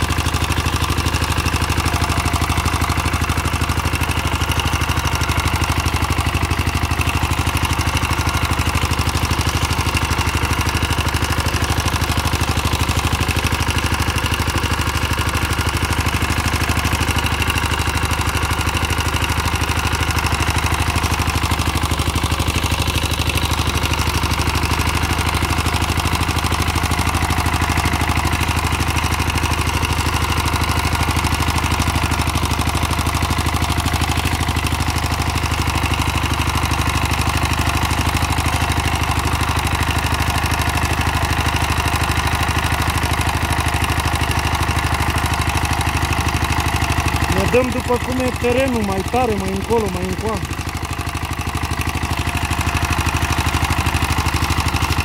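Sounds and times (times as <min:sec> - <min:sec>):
rotary tiller engine running: 0:00.0 - 0:55.0.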